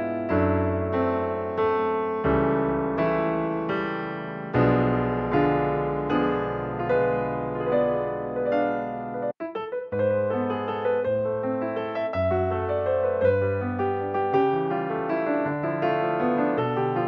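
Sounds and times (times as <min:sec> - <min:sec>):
slow gentle piano notes: 0:00.0 - 0:17.0.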